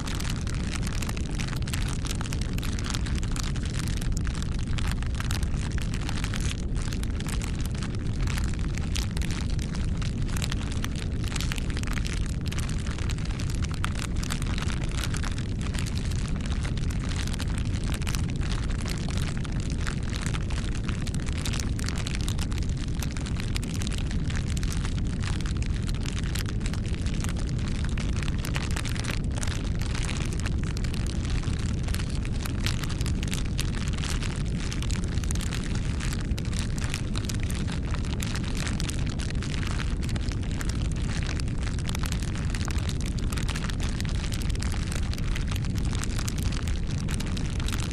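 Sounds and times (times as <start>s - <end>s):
campfire flames rumbling: 0.0s - 47.9s
wood crackling and popping: 0.0s - 47.9s.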